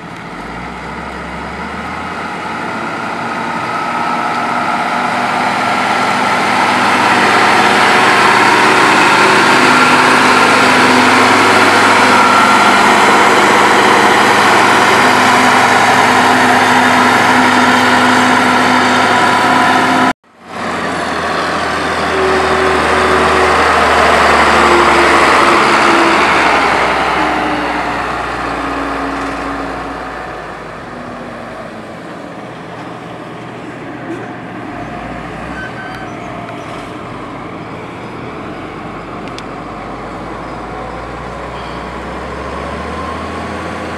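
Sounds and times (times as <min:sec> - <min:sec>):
heavy machinery engines running: 0:00.0 - 0:43.9.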